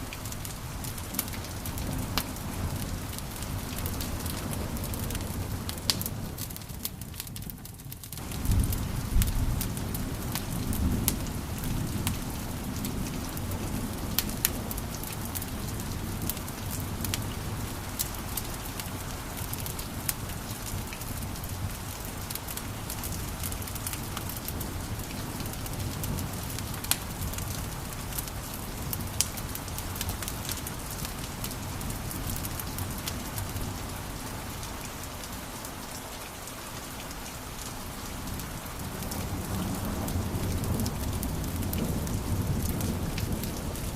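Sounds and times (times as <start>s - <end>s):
wood fire crackling and popping: 0.0s - 34.0s, 38.3s - 43.9s.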